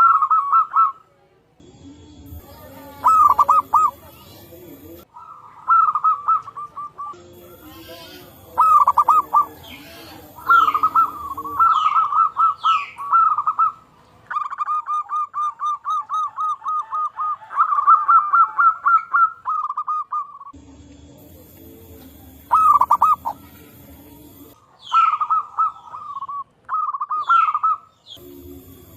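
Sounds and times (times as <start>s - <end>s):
doves cooing: 0.0s - 1.1s, 2.3s - 28.9s
high falling bird calls: 2.4s - 20.5s, 22.5s - 28.4s.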